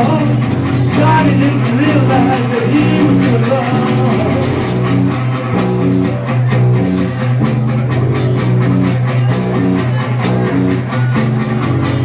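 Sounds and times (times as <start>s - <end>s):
bass line: 0.0s - 12.0s
drum kit cymbal beat: 0.0s - 12.0s
electric guitar riff: 0.0s - 12.0s.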